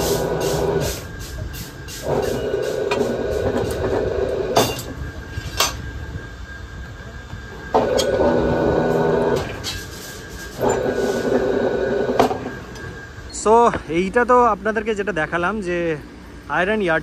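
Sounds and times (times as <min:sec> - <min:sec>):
bending machine turntable whining: 0:00.0 - 0:17.0.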